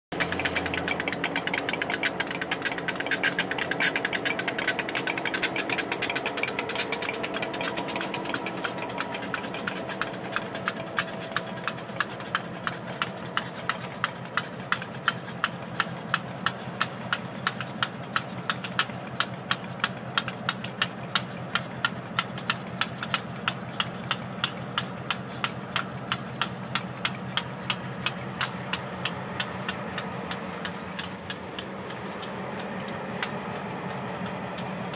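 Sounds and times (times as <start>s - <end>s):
diesel locomotives idling: 0.0s - 34.9s.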